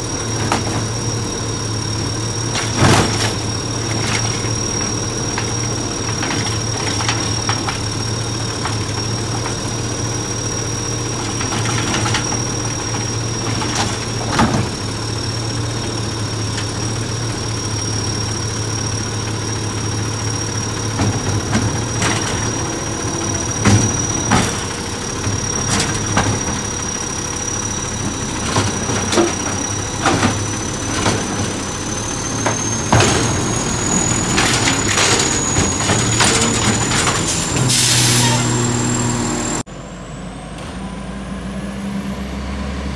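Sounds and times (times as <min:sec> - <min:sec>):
garbage truck idling with whine: 0:00.0 - 0:42.9.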